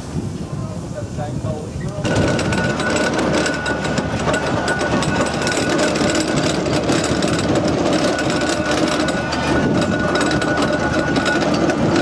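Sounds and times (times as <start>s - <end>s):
steam engine clatter: 1.3s - 12.0s.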